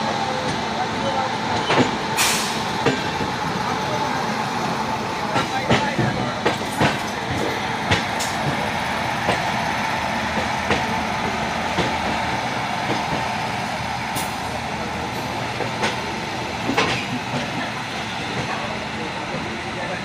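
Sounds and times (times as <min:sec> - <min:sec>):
rush of wheels on rail: 0:00.0 - 0:20.0.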